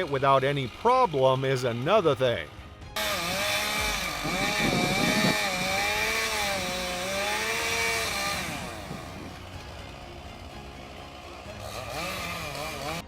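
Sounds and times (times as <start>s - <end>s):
chainsaw cutting tree: 0.0s - 13.0s.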